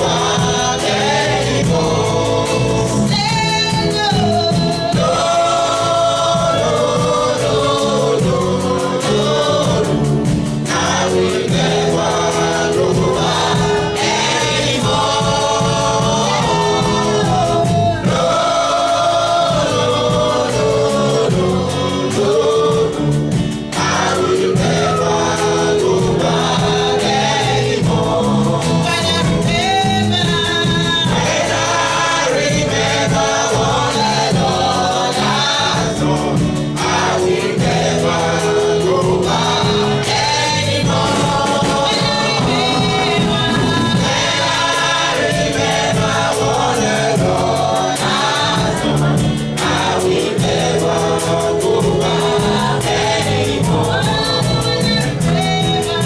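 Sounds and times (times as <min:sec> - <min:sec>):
choir singing gospel song: 0:00.0 - 0:56.0
instrumental accompaniment: 0:00.0 - 0:56.0.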